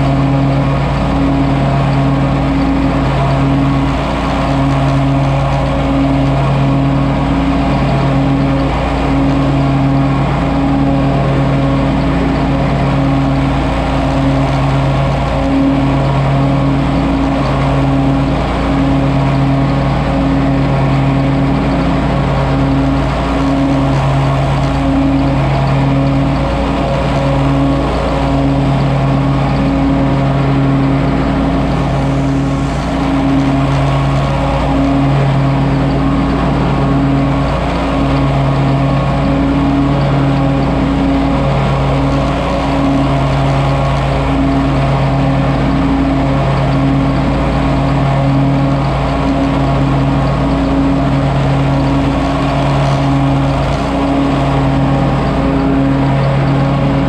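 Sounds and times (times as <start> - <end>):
mower engine droning: 0.0 - 57.0.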